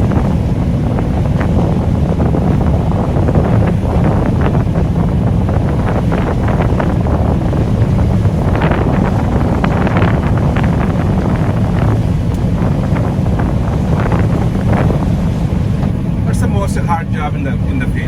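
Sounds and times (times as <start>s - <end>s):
combine harvester engine drone: 0.0s - 18.0s
constant rattling: 0.0s - 18.0s.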